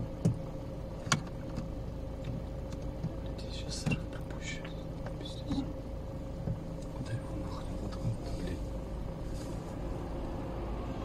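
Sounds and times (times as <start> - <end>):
faint steady hum: 0.0 - 11.0
road traffic rumble: 0.0 - 11.0.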